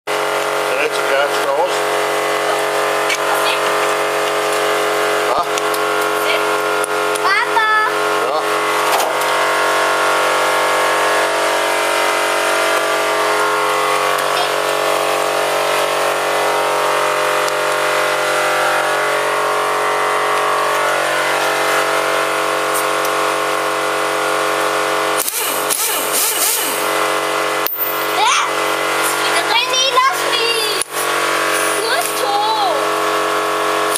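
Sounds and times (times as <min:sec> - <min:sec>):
steady mechanical hum: 0:00.1 - 0:33.9.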